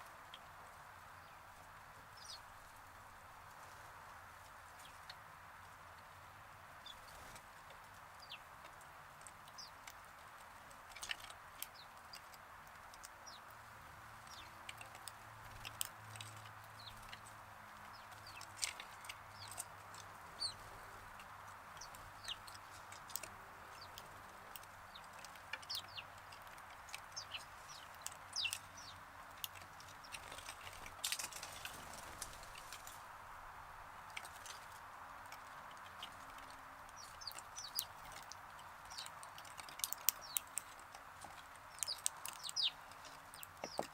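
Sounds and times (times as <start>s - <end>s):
sparrows chirping: 0.0s - 43.9s
steady background hiss: 0.0s - 43.9s.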